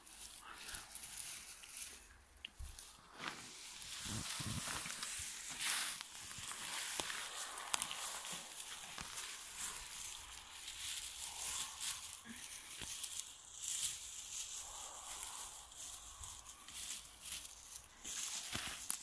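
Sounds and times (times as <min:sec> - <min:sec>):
rustling of shrubs: 0:00.0 - 0:19.0
twigs clicking: 0:00.0 - 0:19.0.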